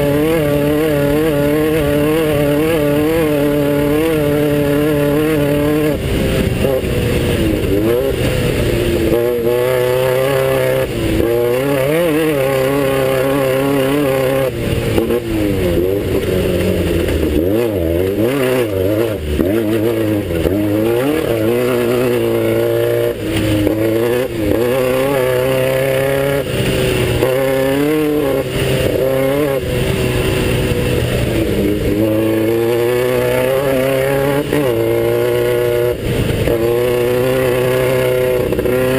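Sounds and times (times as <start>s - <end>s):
buggy engine revving hard: 0.0s - 38.9s.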